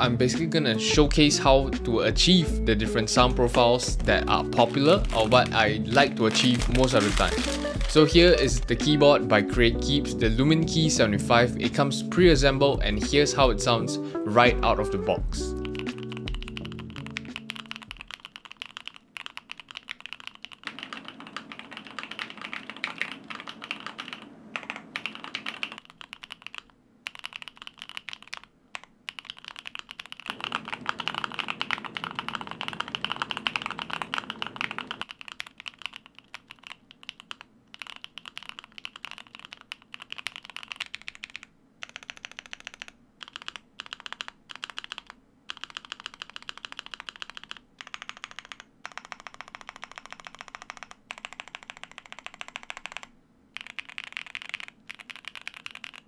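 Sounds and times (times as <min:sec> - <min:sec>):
mechanical keyboard typing: 0:03.5 - 0:08.8, 0:15.6 - 0:56.0.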